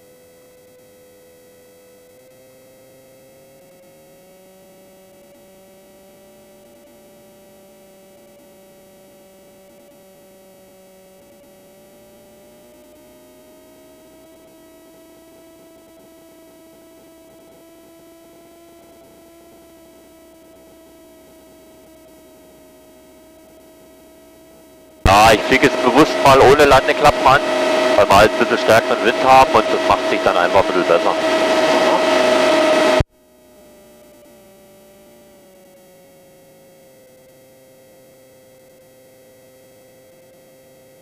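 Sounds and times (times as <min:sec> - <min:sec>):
faint aircraft engine hum: 0:05.1 - 0:41.0.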